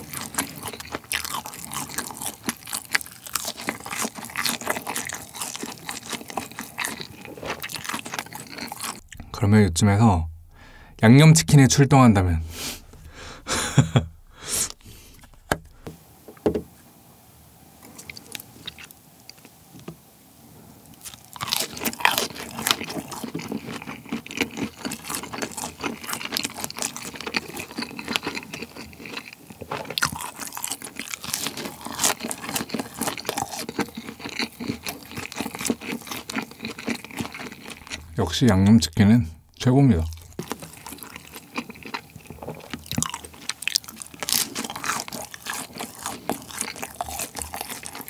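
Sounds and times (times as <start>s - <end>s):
crunching and chewing food: 0.0s - 9.4s, 12.5s - 15.9s, 17.8s - 19.6s, 20.8s - 48.0s.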